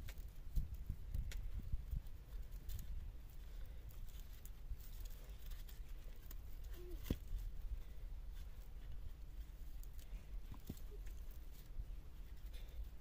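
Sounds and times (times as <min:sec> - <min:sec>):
cord rustling on wooden poles: 0:00.0 - 0:13.0
steady low rumble: 0:00.0 - 0:13.0.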